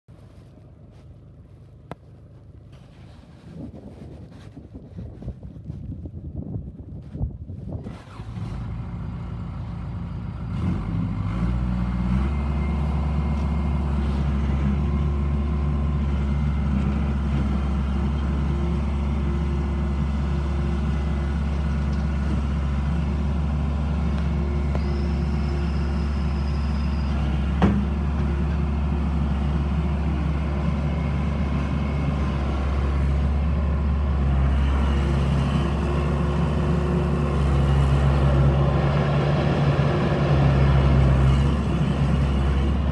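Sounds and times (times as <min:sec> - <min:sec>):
diesel engine running: 0:07.8 - 0:42.9.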